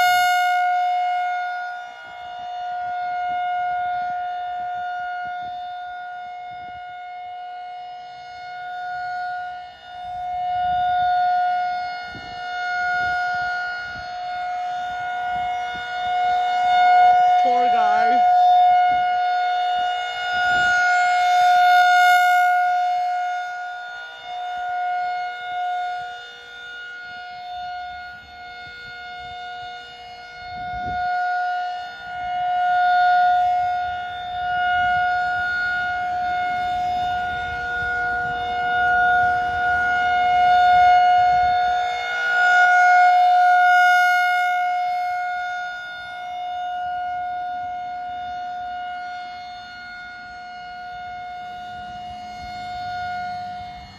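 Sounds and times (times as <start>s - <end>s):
tornado warning siren: 0.0s - 53.9s.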